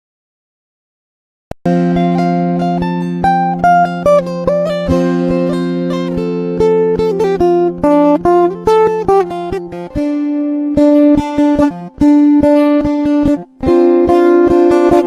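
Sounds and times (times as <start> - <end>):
plucked string instrument melody: 1.6 - 15.0.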